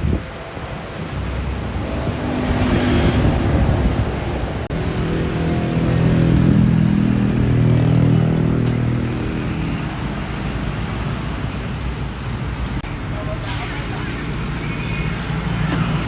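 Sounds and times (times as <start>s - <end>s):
steady traffic noise: 0.0s - 16.0s.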